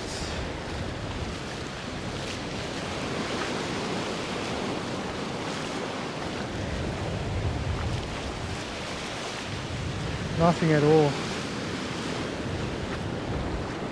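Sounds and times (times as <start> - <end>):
ocean surf washing ashore: 0.0 - 13.9
wind buffeting microphone: 0.0 - 13.9.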